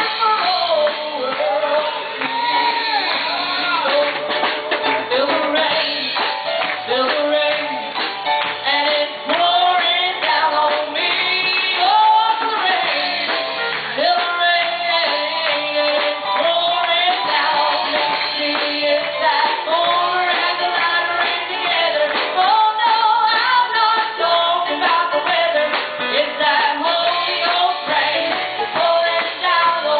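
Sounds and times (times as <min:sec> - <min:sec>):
band accompaniment with beat: 0:00.0 - 0:29.9
woman singing gospel song: 0:00.0 - 0:29.9.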